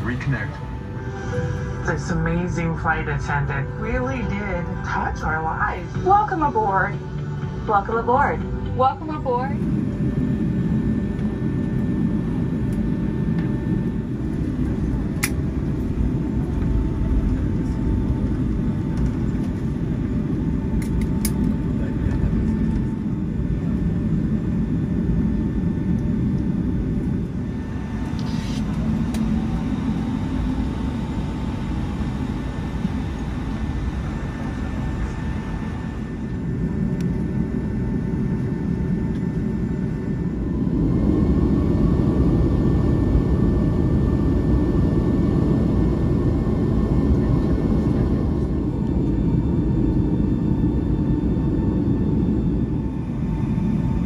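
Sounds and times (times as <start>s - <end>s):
aircraft engine rumble: 0.0s - 54.0s
thin steady whine: 0.0s - 54.0s.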